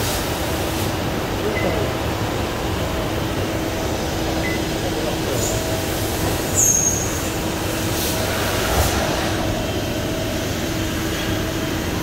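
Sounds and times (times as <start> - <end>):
machine mechanical hum: 0.0 - 12.0.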